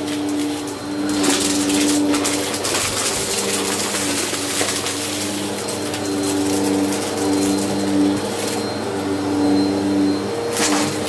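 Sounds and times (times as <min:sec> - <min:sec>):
vacuum cleaner motor hum: 0:00.0 - 0:11.0.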